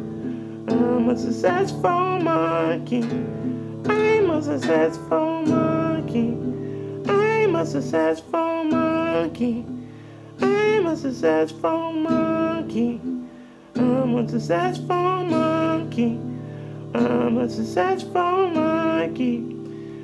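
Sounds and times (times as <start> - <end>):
steady guitar backing: 0.0 - 20.0.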